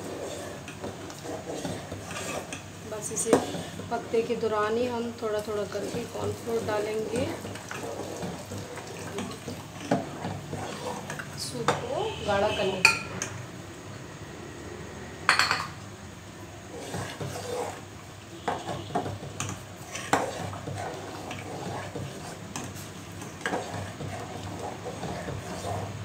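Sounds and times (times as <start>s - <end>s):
metal spoon stirring in pot: 0.0s - 13.4s, 16.7s - 26.0s.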